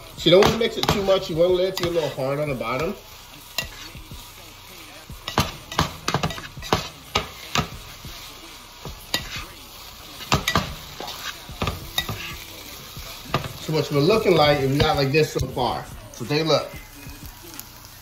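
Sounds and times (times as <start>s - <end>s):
spatula scraping a pan: 0.0s - 16.5s
food sizzling in a frying pan: 0.0s - 18.0s.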